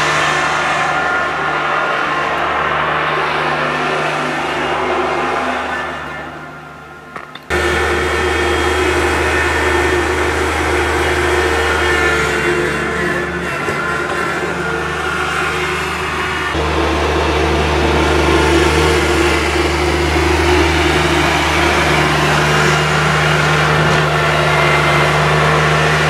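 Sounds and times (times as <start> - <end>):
snow blower engine running: 0.0 - 6.9, 7.5 - 26.0.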